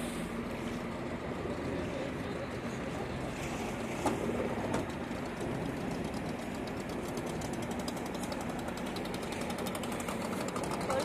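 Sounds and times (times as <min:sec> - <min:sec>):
boat engine ticking and rumbling: 0:00.0 - 0:11.0.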